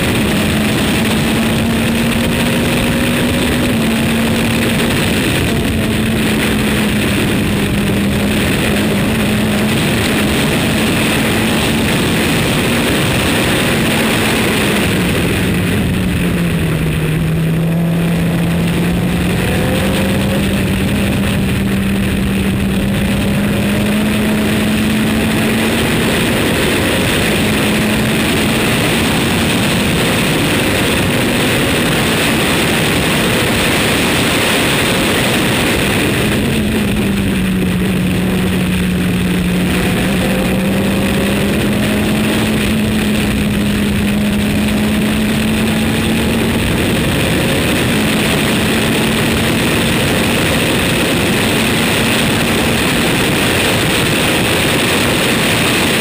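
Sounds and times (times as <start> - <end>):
race car engine running hard: 0.0 - 56.0
wind and road noise: 0.0 - 56.0.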